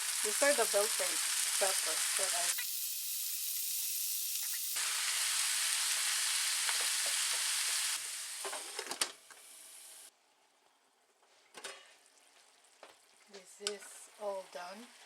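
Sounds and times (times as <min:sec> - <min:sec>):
peppers sizzling in a frying pan: 0:00.0 - 0:10.1, 0:12.0 - 0:15.0.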